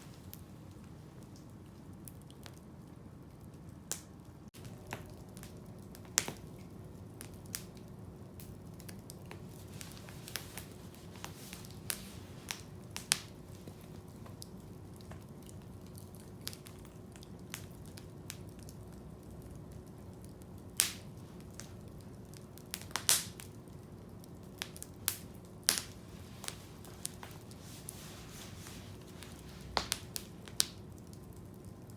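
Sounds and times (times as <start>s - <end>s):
campfire crackling and popping: 3.3s - 31.9s.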